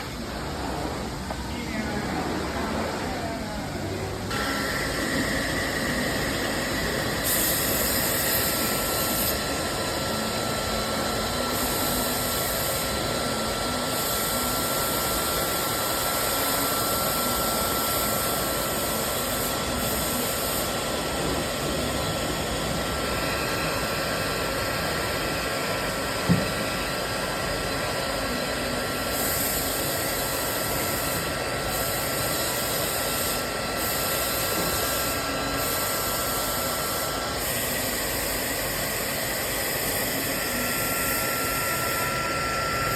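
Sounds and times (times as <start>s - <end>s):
small motorised tool whirring: 1.0s - 42.9s.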